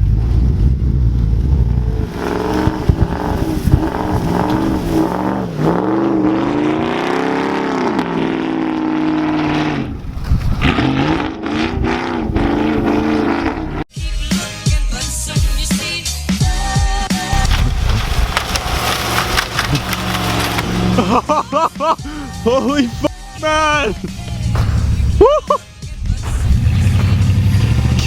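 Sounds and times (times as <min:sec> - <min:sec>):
pickup truck engine revving: 0:00.0 - 0:13.9, 0:17.4 - 0:28.0.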